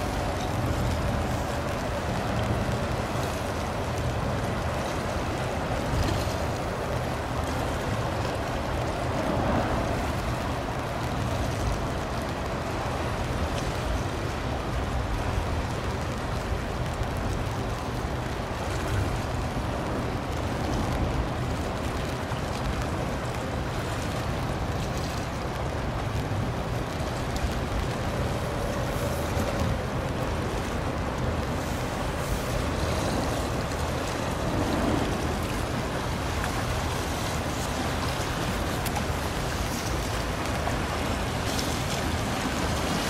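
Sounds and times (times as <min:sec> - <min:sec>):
small waves: 0:00.0 - 0:43.0
wind: 0:00.0 - 0:43.0.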